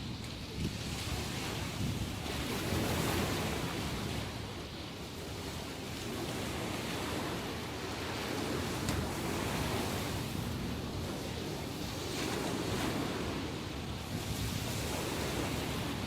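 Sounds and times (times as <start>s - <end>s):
waves breaking and washing in: 0.0s - 16.0s.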